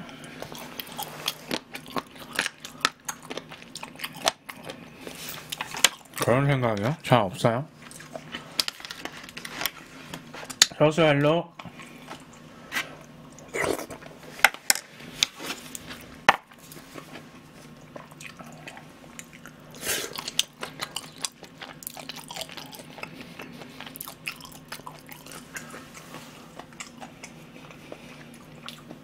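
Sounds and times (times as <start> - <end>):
person chewing food: 0.0 - 6.9, 7.8 - 10.7, 11.6 - 14.6, 15.2 - 29.0.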